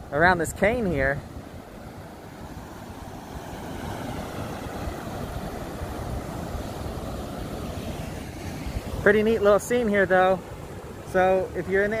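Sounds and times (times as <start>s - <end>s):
waterfall rushing: 0.2s - 12.0s.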